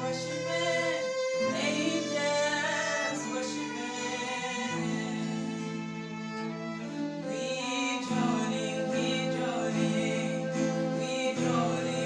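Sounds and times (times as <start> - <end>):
sustained accompaniment: 0.0 - 12.0
violin playing held notes: 0.0 - 12.0.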